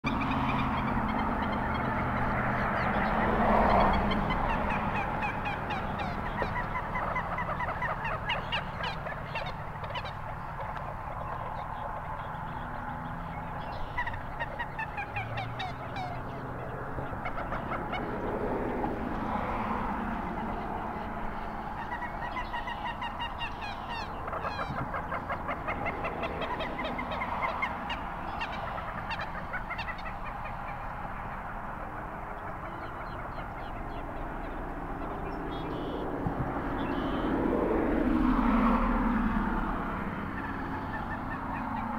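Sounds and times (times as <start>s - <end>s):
birds clucking and cackling: 0.0s - 41.9s.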